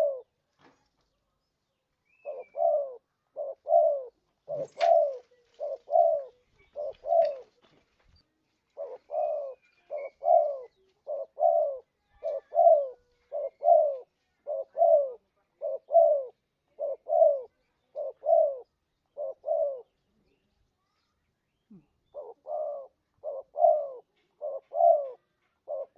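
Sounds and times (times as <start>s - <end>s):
dove cooing: 0.0s - 0.4s, 2.2s - 7.8s, 8.7s - 20.0s, 21.7s - 25.9s.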